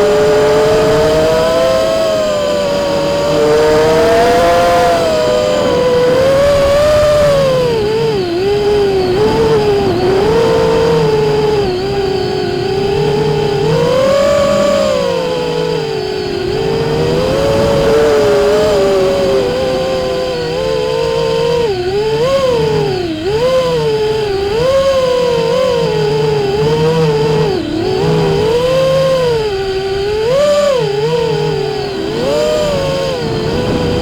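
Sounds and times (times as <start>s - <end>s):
quadcopter motors and propellers whining: 0.0s - 34.0s.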